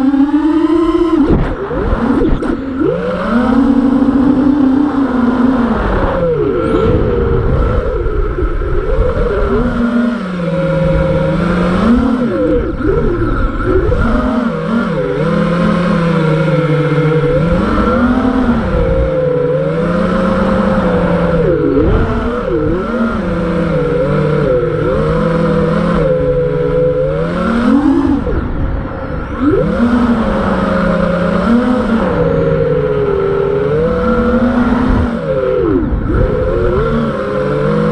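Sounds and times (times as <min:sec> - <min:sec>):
quadcopter motors whining: 0:00.0 - 0:37.9.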